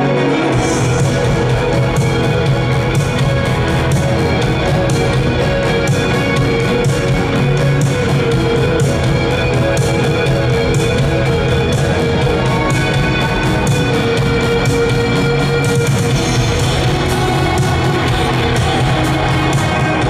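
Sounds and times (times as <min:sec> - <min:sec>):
electric guitar: 0:00.0 - 0:20.0
drums with cymbal beat: 0:00.4 - 0:20.0.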